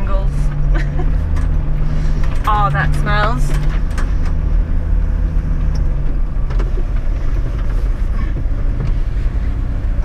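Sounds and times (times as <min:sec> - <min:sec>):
four-wheel drive engine running: 0:00.0 - 0:10.0.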